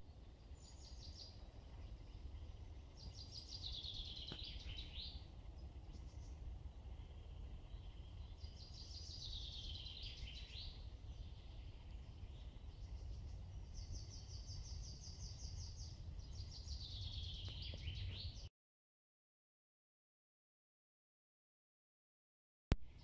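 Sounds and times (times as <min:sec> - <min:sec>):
low steady rumble: 0:00.0 - 0:18.4
songbirds singing: 0:00.0 - 0:18.5.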